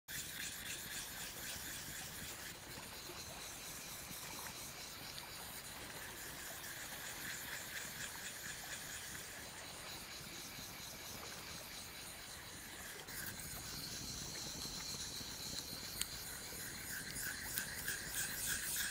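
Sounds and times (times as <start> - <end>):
forest ambience hiss: 0.1 - 18.9.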